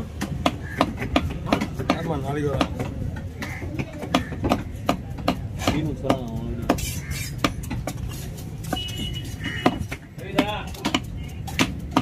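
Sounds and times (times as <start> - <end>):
knife chopping on wooden block: 0.0 - 12.0
voices talking: 0.5 - 12.0.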